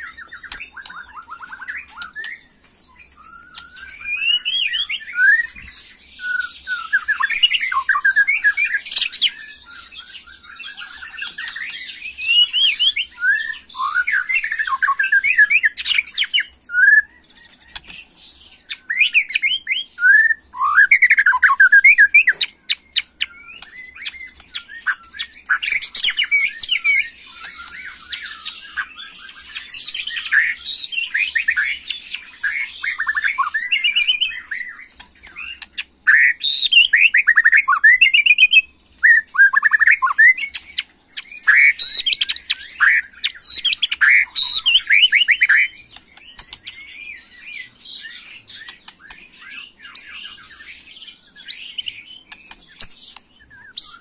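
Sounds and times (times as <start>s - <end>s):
bird singing rapid whistles: 0.0s - 54.0s.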